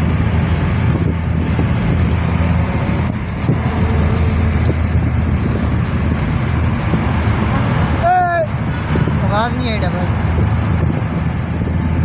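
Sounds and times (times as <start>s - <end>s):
car road noise inside cabin: 0.0s - 12.0s.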